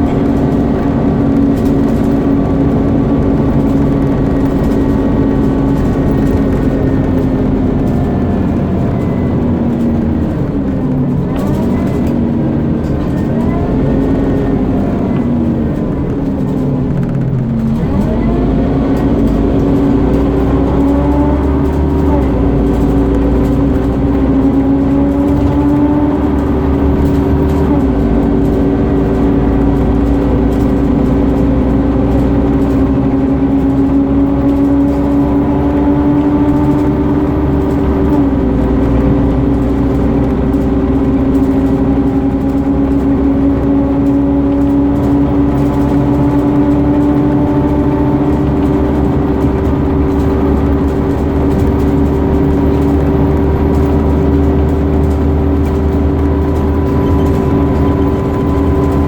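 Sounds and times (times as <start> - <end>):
bus engine whining: 0.0 - 59.0.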